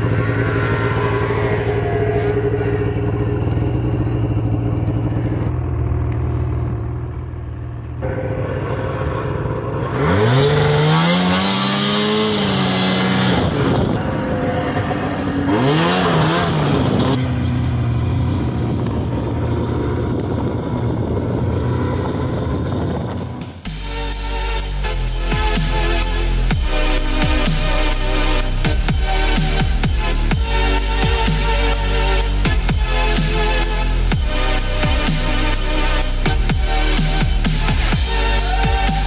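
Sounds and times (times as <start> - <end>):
snowmobile engine revving: 0.0 - 39.0.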